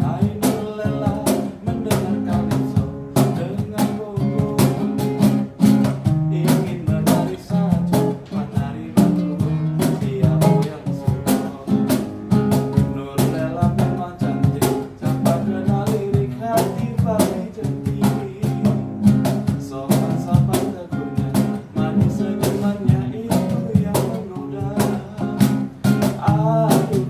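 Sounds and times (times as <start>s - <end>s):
acoustic guitar chords: 0.0s - 27.0s
cajon beat: 0.0s - 27.0s.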